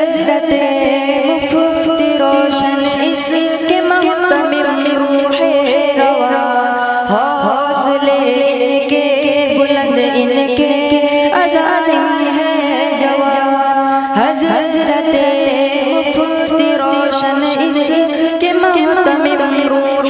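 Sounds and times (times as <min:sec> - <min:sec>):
boys singing devotional song: 0:00.0 - 0:20.0.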